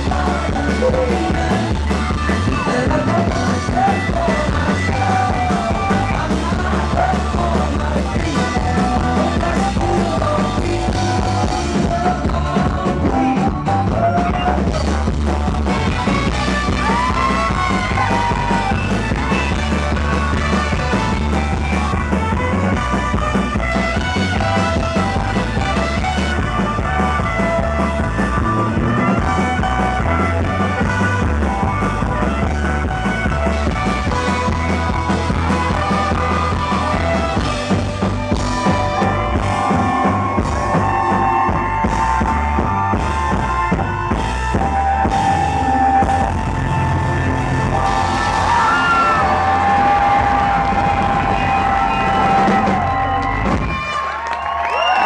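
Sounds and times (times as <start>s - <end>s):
drum kit: 0.0s - 55.0s
live band playing: 0.0s - 55.0s.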